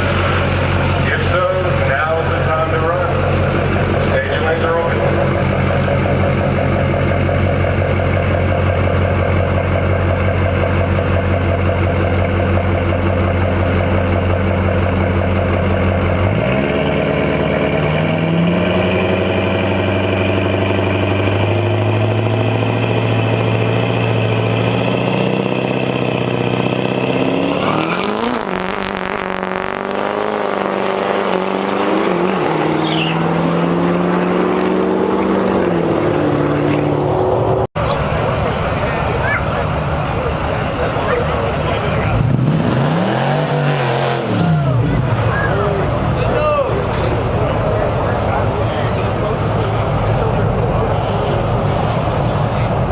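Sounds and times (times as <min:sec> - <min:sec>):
diesel truck engine accelerating: 0:00.0 - 0:52.9.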